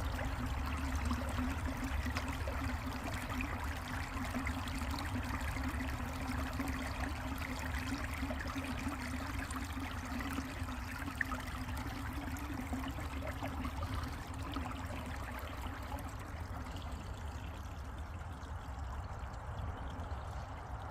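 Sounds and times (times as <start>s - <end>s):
creek water running over rocks: 0.0s - 20.9s.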